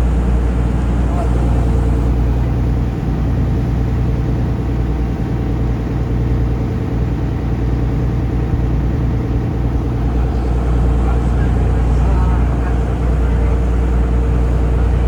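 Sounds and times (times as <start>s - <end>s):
boat engine deep hum: 0.0s - 15.0s.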